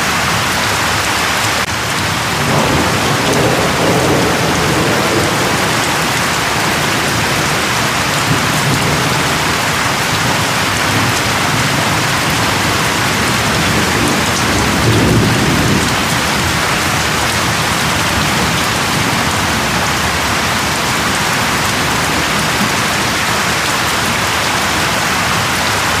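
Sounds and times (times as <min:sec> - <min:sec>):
heavy rain pattering: 0:00.0 - 0:26.0
low rumble of thunder: 0:01.9 - 0:23.6.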